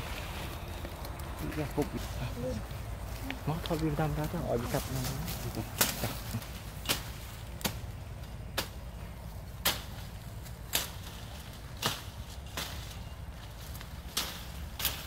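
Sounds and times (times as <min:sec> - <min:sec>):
leaves rustling: 0:00.0 - 0:15.0
knife chopping branches: 0:02.5 - 0:15.0.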